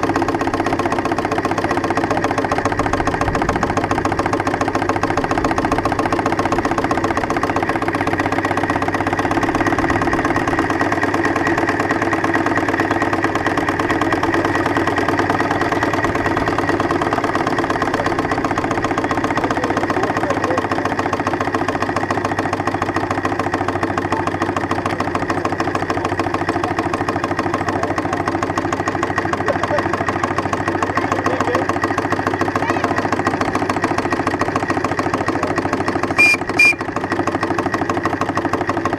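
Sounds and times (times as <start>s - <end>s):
steam engine fast mechanical beat: 0.0s - 38.9s.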